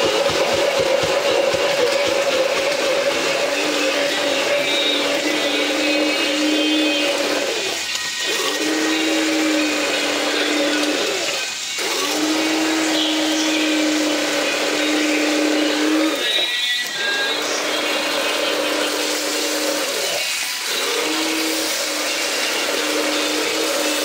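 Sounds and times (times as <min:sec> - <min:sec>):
immersion blender motor humming: 0:00.0 - 0:24.0.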